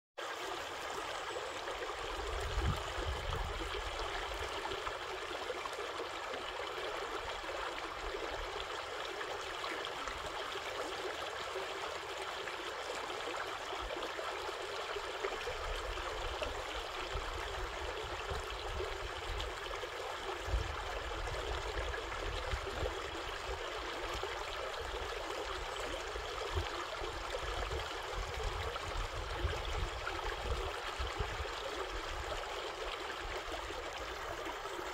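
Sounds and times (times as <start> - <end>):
creek flowing over stones: 0.2 - 34.9.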